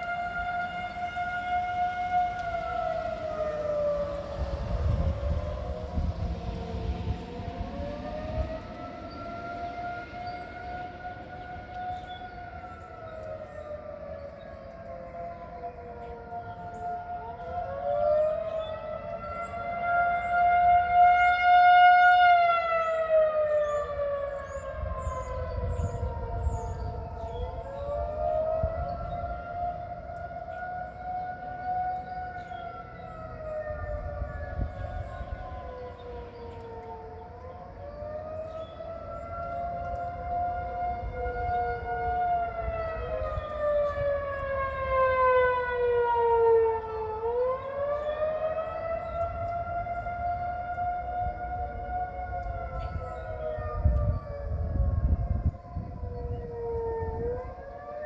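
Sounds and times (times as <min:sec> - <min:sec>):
warning sirens wailing: 0:00.0 - 0:58.0.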